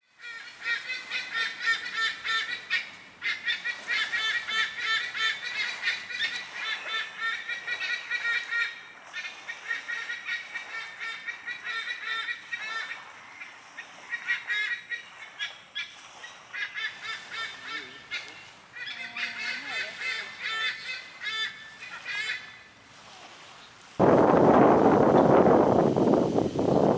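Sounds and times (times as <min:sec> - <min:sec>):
sea eagles honking calls: 0:00.1 - 0:22.7.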